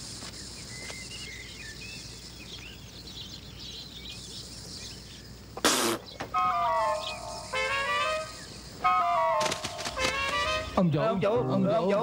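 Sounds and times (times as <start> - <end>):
short insect chirps: 0.0 - 10.8
insects trilling: 0.0 - 12.0.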